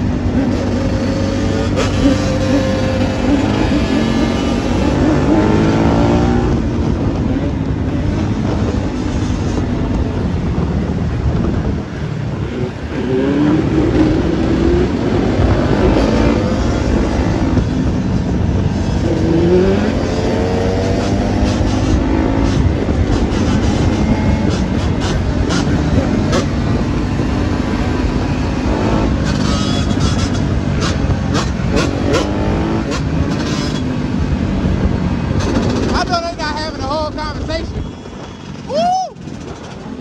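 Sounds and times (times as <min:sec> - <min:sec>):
off-road engines running: 0:00.0 - 0:40.0
wind rush: 0:00.0 - 0:40.0.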